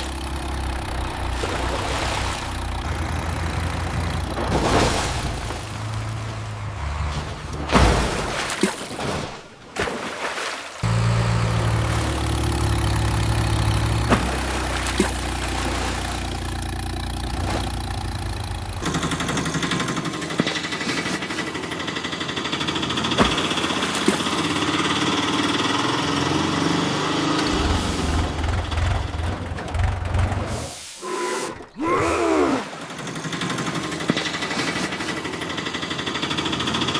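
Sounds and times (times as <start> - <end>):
vehicle engine running: 0.0 - 8.3, 10.8 - 36.9.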